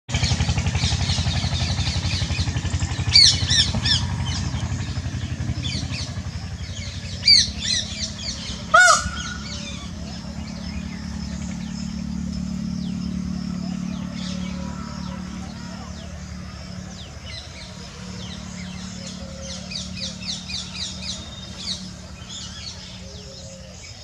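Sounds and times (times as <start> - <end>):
birds chirping: 0.1 - 24.0
low motor throb: 0.1 - 24.0.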